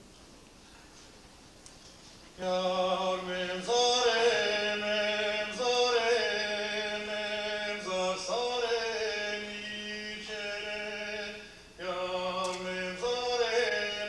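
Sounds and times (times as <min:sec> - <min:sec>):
low vocal drone: 0:02.4 - 0:14.0
men singing without instruments: 0:02.4 - 0:14.0.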